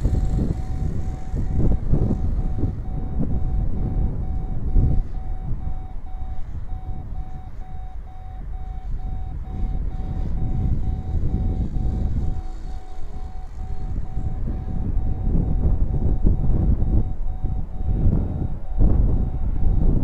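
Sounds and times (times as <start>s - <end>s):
electronic beeps: 0.0s - 20.0s
wind buffeting microphone: 0.0s - 20.0s.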